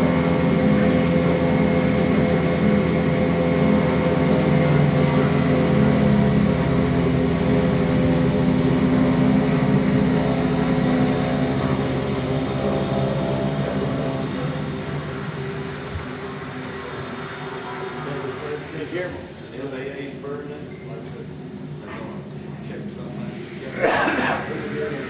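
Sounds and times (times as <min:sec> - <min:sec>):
propeller plane engines droning: 0:00.0 - 0:25.0
thin high engine whine: 0:00.0 - 0:25.0.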